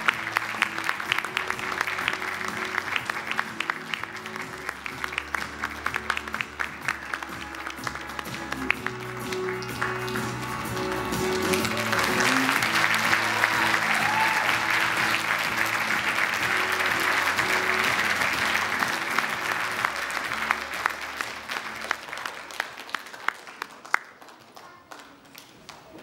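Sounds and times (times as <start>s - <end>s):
music: 0.0s - 24.2s
audience applauding: 0.0s - 26.0s.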